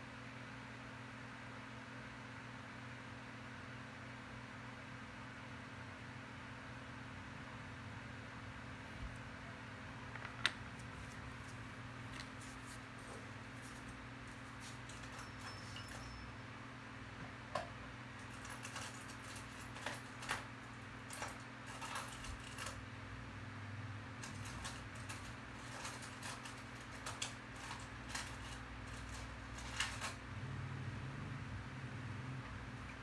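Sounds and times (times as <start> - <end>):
steady low hum: 6.0 - 33.0.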